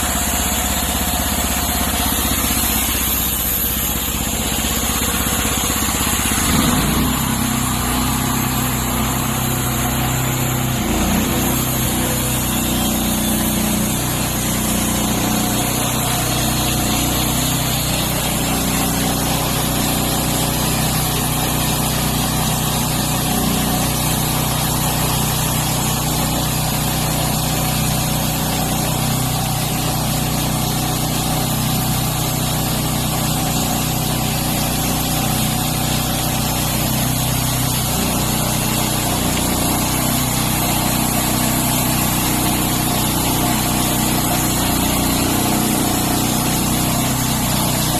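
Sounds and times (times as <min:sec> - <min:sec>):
small engine running steadily: 0:00.0 - 0:47.9.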